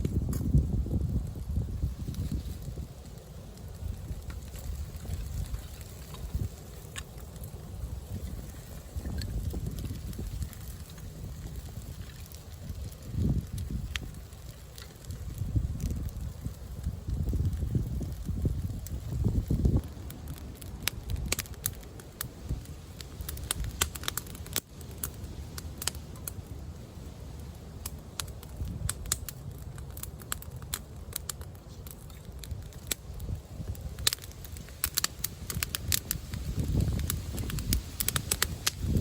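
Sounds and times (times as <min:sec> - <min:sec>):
wind on microphone: 0:00.0 - 0:27.2, 0:28.3 - 0:39.0
campfire crackling and snapping: 0:00.0 - 0:39.0.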